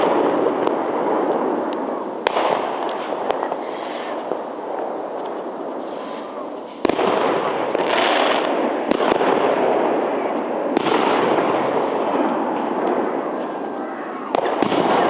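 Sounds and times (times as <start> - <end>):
fireworks crackling: 0.0 - 15.0
sharp fireworks bangs: 0.0 - 15.0.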